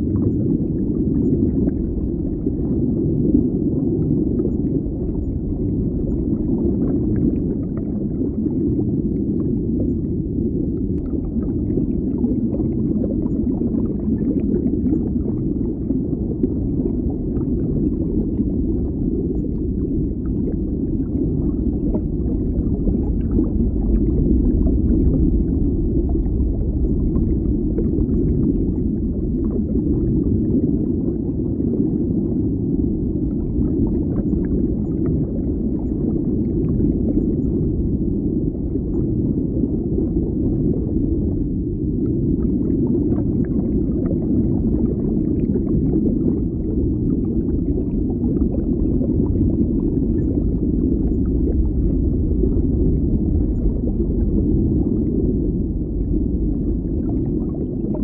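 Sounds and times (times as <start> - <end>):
bubbles popping and gurgling: 0.0 - 58.0
underwater rumble: 0.0 - 58.0.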